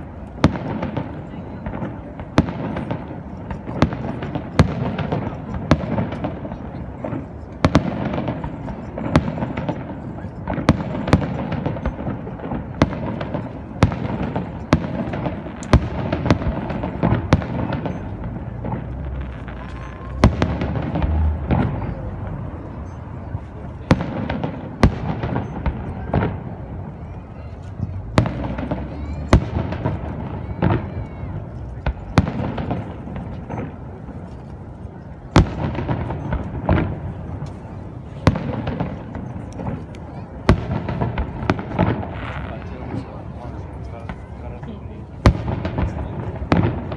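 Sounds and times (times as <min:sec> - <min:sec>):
din of firework bursts: 0:00.0 - 0:46.9.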